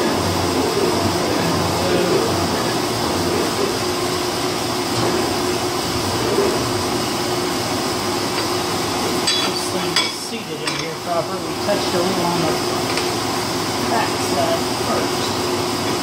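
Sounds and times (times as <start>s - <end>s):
metal shaper machine hum: 0.0s - 16.0s.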